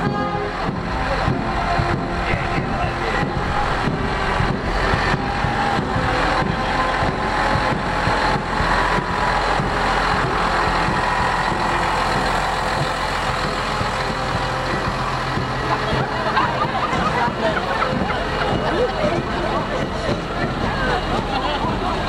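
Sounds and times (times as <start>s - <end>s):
heavy vehicle engine running: 0.0s - 22.0s.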